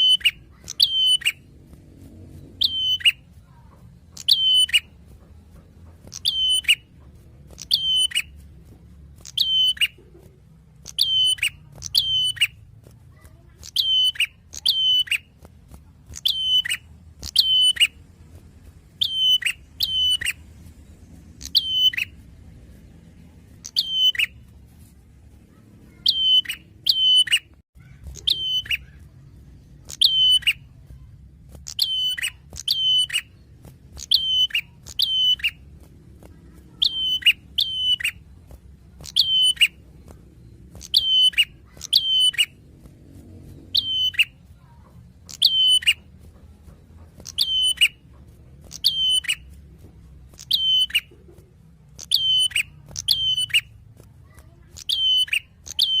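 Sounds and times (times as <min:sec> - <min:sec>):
bird high chirps: 0:00.0 - 0:01.6, 0:02.3 - 0:18.1, 0:18.7 - 0:25.0, 0:25.8 - 0:56.0.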